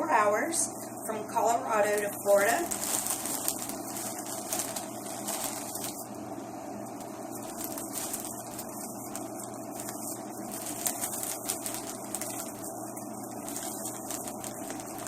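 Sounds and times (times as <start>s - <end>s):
steady background hum: 0.0s - 15.0s
packaging rustling: 1.9s - 6.1s, 7.0s - 15.0s.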